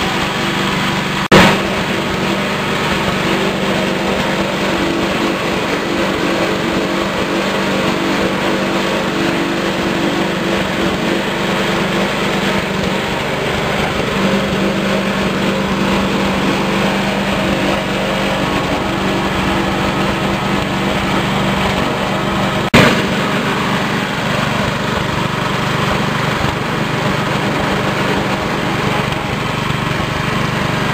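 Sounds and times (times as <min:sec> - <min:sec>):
shredding machine humming: 0:00.0 - 0:30.9.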